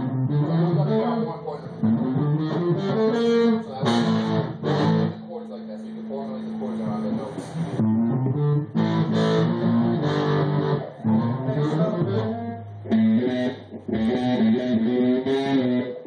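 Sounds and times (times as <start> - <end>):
bass guitar: 0.0 - 5.3, 5.9 - 16.0
electric guitar: 0.0 - 16.0.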